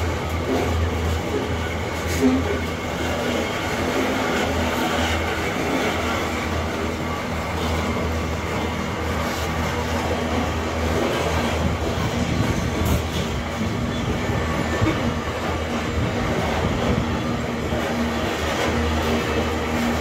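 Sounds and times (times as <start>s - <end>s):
train wagons rumbling and clattering: 0.0s - 20.0s.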